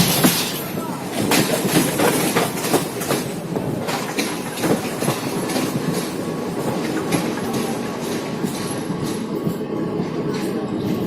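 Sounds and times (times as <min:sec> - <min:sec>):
train rolling noise: 0:00.0 - 0:11.0
train wheels clicking over rail joints: 0:00.0 - 0:11.0.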